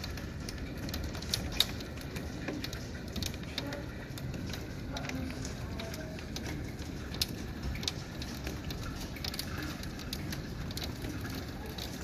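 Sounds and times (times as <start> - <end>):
hailstones striking hard surfaces: 0.0 - 12.0
low storm noise: 0.0 - 12.0.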